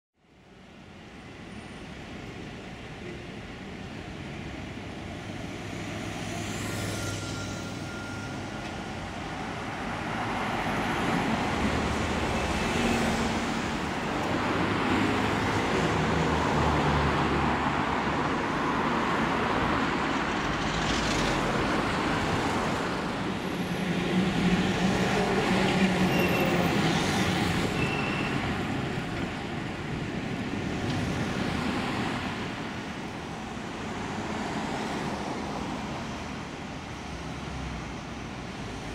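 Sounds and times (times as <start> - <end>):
road traffic passing: 0.3 - 38.9.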